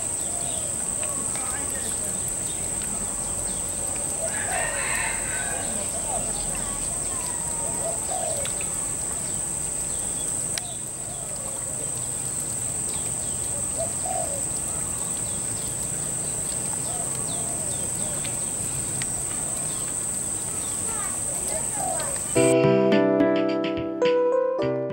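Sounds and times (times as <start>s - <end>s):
birds cooing: 0.0s - 22.4s
birds chirping: 0.0s - 22.5s.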